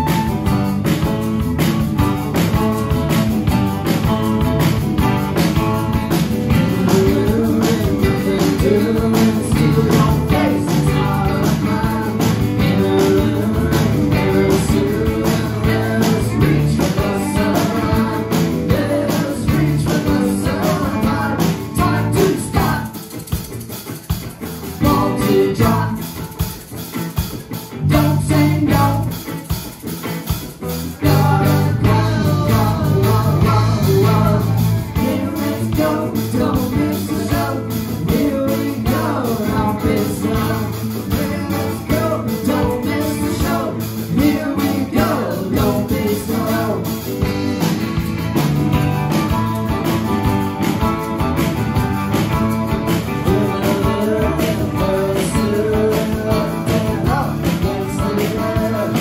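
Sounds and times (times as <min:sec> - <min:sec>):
voices singing: 0:00.0 - 0:23.3, 0:24.6 - 0:26.6, 0:27.7 - 0:29.3, 0:30.8 - 0:48.2, 0:52.0 - 0:59.0
live rock band playing: 0:00.0 - 0:59.0.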